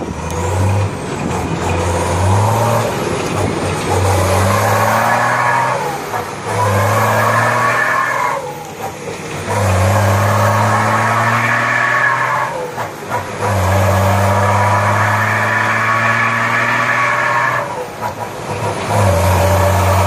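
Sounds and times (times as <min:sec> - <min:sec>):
diesel truck engine revving: 0:00.0 - 0:20.0.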